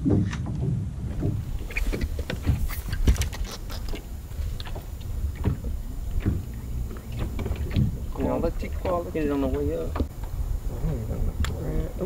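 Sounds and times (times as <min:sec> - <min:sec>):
steady low rumble: 0:00.8 - 0:12.0.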